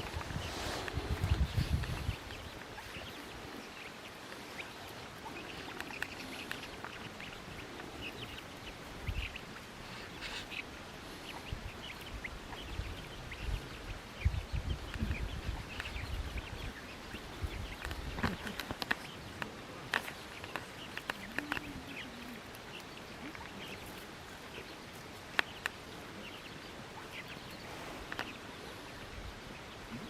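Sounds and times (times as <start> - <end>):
birds chirping and calling: 0.0 - 30.0
faint outdoor background noise: 0.0 - 30.0.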